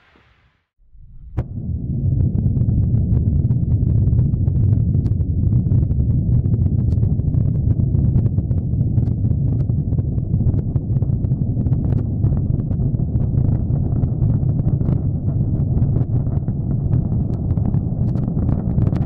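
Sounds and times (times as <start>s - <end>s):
rocket engines rumbling and crackling: 1.0s - 19.0s.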